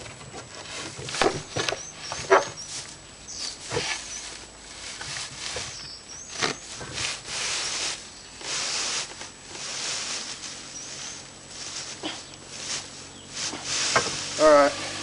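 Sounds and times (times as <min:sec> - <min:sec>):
hay rustling and crunching: 0:00.0 - 0:15.0.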